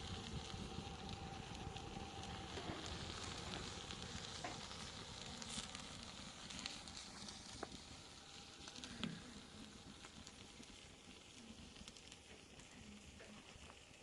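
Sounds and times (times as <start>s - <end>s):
faint steady hiss: 0.0s - 14.0s
small crackles and clicks: 0.0s - 14.0s.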